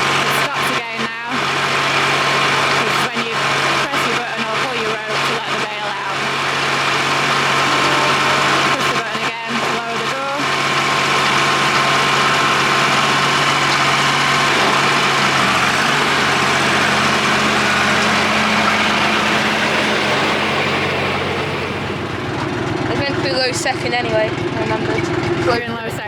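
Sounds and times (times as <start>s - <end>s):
baler mechanical clatter: 0.0s - 26.0s
tractor engine running: 0.0s - 26.0s.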